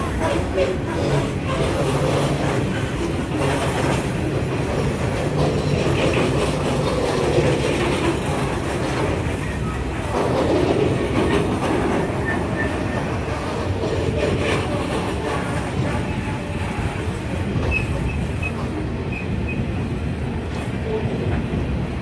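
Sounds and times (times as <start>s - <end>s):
freight train rolling rumble: 0.0s - 22.0s.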